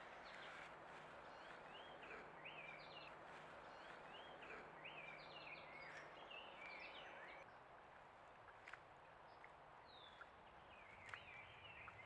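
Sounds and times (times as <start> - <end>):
faint songbird song: 0.0 - 7.6, 9.2 - 12.0.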